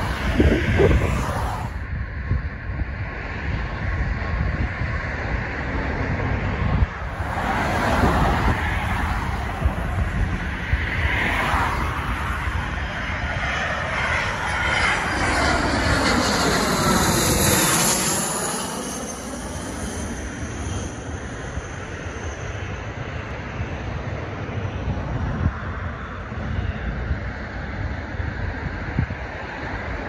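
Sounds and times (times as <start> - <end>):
wind on microphone: 0.0 - 18.5, 23.1 - 30.0
jet passing low overhead: 0.0 - 30.0.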